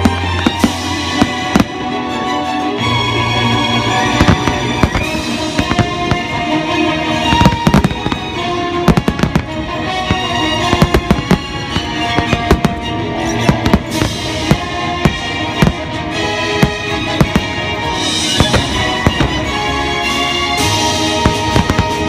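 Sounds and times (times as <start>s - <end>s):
fireworks bursting: 0.0s - 2.0s, 3.8s - 22.0s
music with long held notes: 0.0s - 22.0s.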